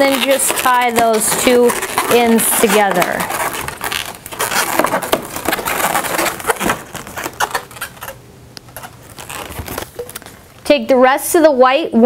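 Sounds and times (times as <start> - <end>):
balloons rubbing and crackling: 0.0 - 10.7.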